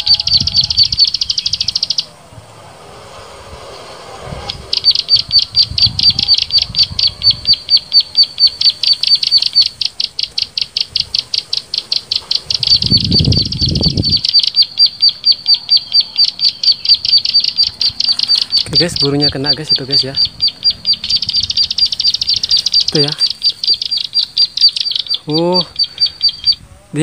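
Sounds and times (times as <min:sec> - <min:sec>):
rapid repeated high bird call: 0:00.0 - 0:02.1, 0:03.6 - 0:27.0.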